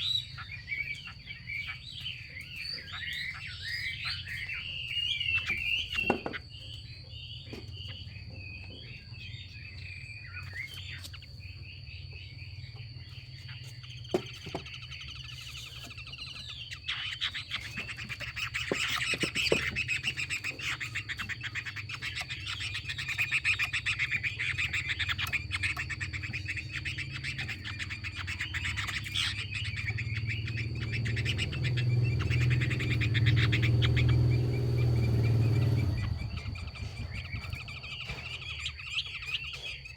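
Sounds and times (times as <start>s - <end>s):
bird harsh chattering call: 0.0s - 8.1s, 13.2s - 39.9s.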